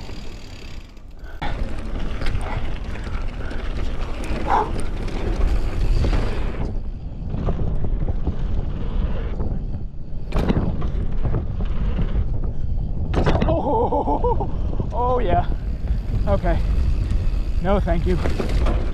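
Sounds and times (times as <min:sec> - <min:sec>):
bike rattles and knocks: 0:00.0 - 0:18.9
bike tyre rumble: 0:00.0 - 0:18.9
wind buffeting microphone: 0:01.4 - 0:18.9.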